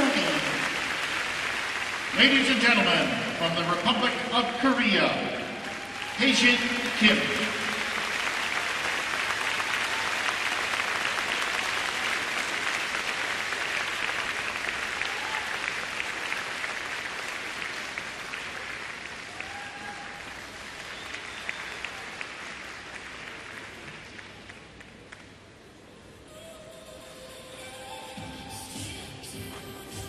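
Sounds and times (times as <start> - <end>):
crowd applauding: 0.0 - 25.5.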